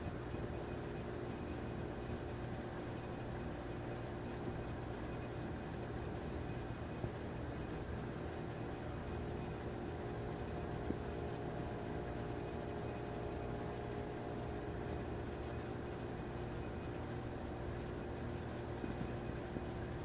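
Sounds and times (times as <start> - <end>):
mechanical hum with hiss: 0.0 - 20.0.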